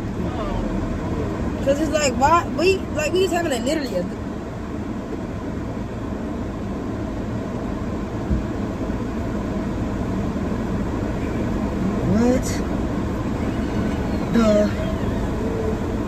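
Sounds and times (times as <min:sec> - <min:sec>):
car running inside cabin: 0:00.0 - 0:16.0.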